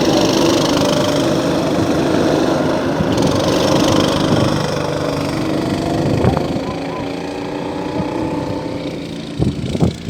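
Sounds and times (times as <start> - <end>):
go-kart engines running: 0.0 - 10.0.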